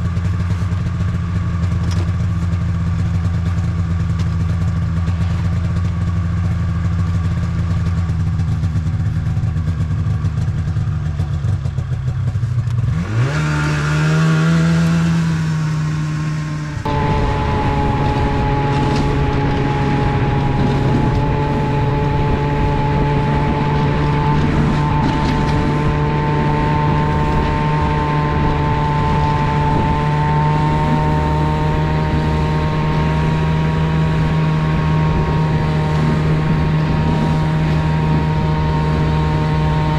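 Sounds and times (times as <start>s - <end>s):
snowmobile engine idling and revving: 0.0s - 39.9s.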